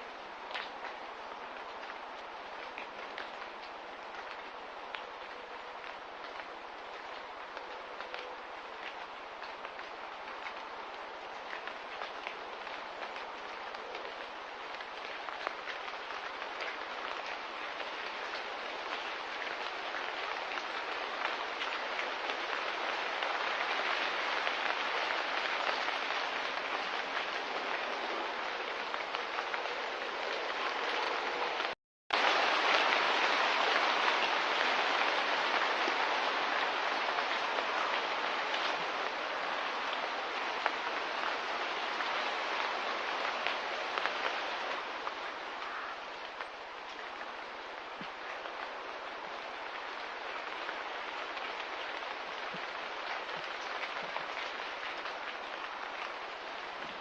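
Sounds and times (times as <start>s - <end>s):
steady rain-like hiss: 0.0s - 57.0s.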